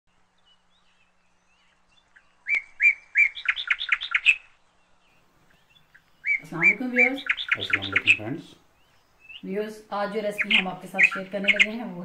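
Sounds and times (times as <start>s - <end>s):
bird singing: 0.1s - 12.0s.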